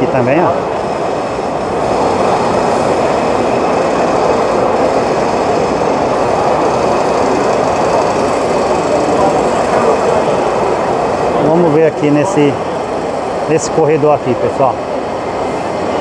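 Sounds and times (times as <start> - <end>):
crowd voices in a hall: 0.0 - 16.0.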